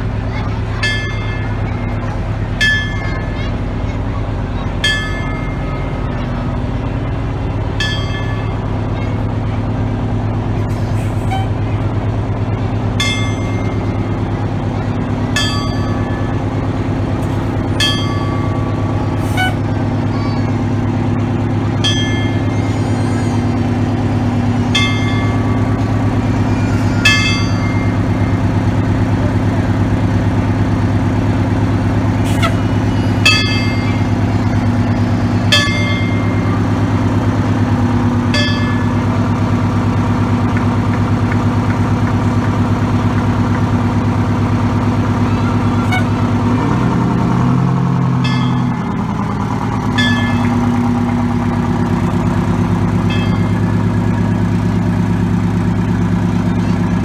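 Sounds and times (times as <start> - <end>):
fire engine motor running: 0.0 - 57.0.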